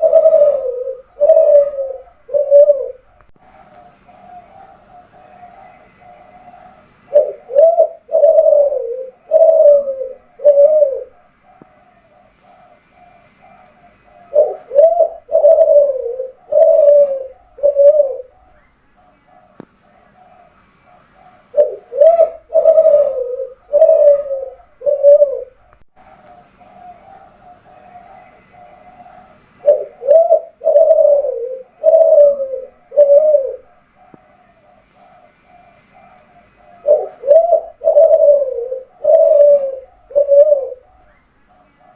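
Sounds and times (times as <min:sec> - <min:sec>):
dove cooing: 0:00.0 - 0:41.9
faint dove cooing: 0:00.0 - 0:41.9.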